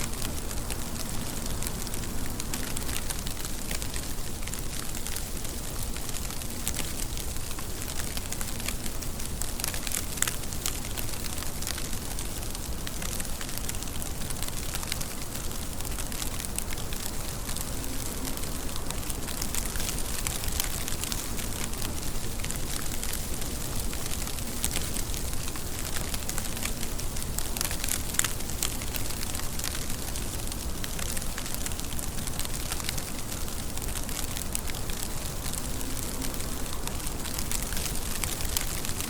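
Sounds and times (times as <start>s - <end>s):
heavy rain pattering: 0.0s - 39.0s.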